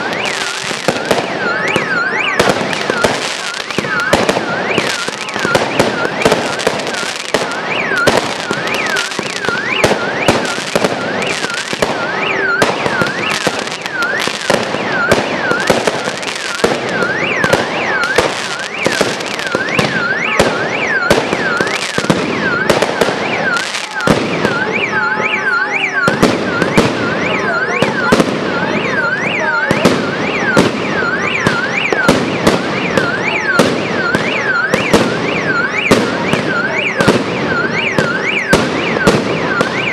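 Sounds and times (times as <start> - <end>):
alarm wailing: 0.0 - 39.9
fireworks bangs and crackles: 0.0 - 39.9.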